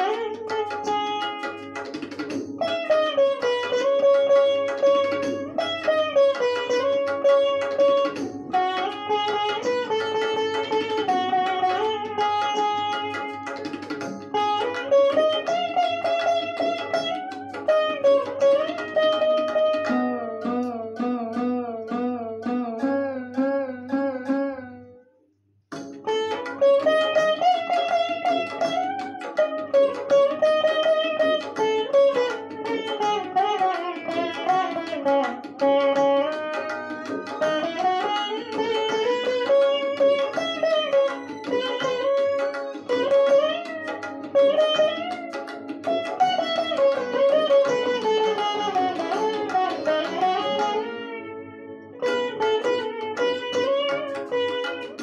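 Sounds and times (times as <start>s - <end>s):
veena playing: 0.0s - 25.1s, 25.7s - 55.0s.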